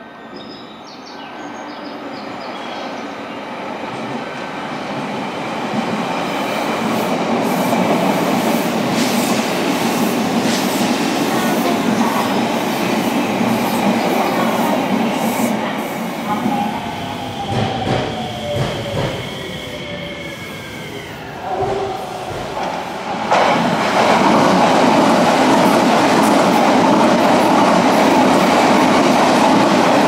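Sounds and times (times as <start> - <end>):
train rumble passing: 3.8 - 30.0.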